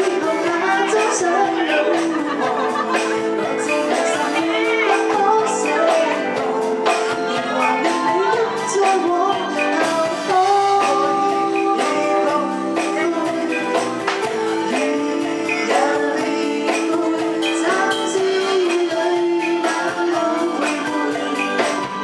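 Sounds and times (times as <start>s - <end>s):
band with drum and cymbal beat: 0.0s - 22.0s
woman singing into microphone: 0.0s - 22.0s.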